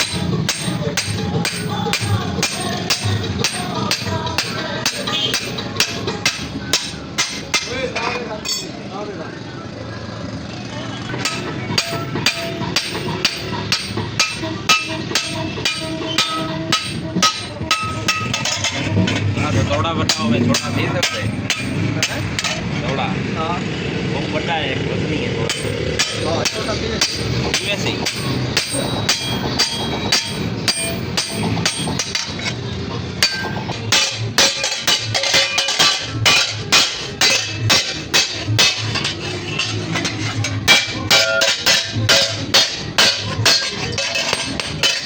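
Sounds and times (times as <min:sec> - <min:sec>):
hammer striking steel on anvil: 0:00.0 - 0:08.8, 0:11.2 - 0:22.6, 0:25.5 - 0:45.0.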